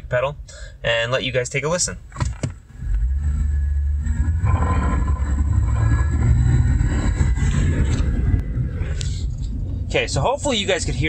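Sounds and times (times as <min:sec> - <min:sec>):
engine and road rumble: 0:00.0 - 0:11.0.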